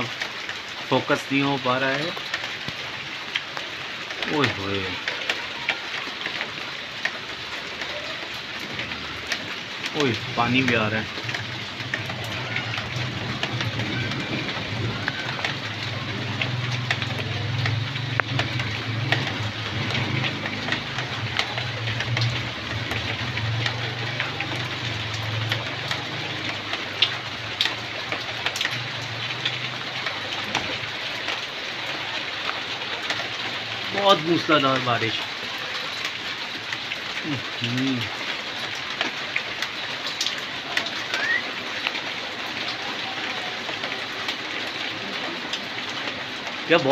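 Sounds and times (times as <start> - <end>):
torrential rain pouring: 0.0 - 46.9.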